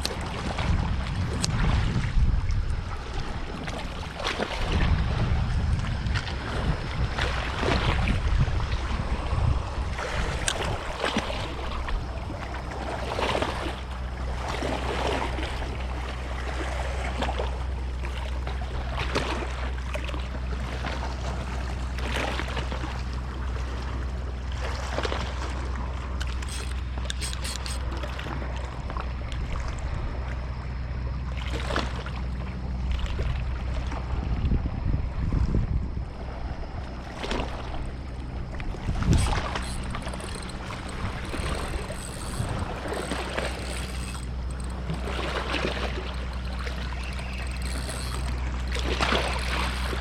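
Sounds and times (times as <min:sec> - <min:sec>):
water splashing and slapping: 0:00.0 - 0:30.5, 0:31.3 - 0:34.8, 0:36.0 - 0:50.0
boat engine humming: 0:00.0 - 0:50.0.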